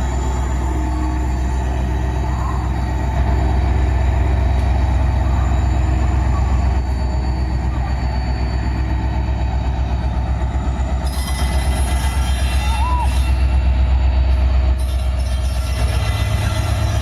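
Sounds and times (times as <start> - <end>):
locomotive diesel engine idling: 0.0 - 17.0.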